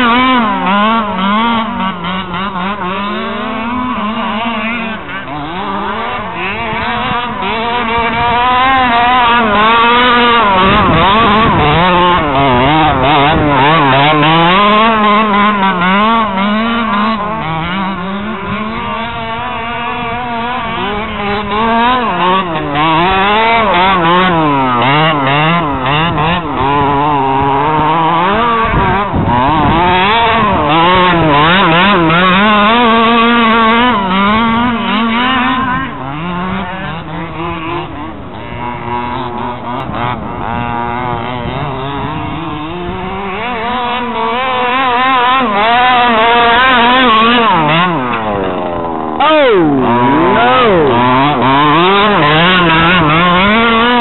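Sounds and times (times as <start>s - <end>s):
small two-stroke engine revving: 0.0s - 54.0s.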